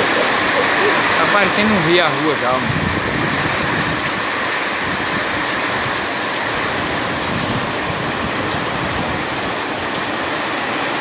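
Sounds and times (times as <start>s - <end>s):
heavy rain on wet street: 0.0s - 11.0s.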